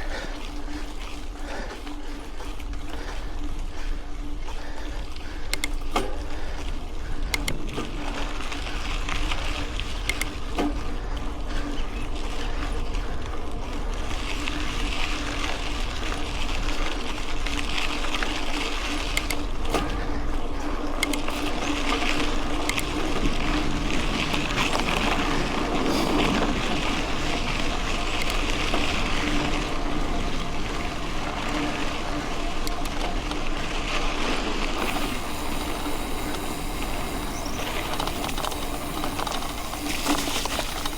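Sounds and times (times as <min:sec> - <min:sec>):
bike tyre and drivetrain noise: 0:00.0 - 0:40.9
wind rumble on microphone: 0:00.0 - 0:40.9.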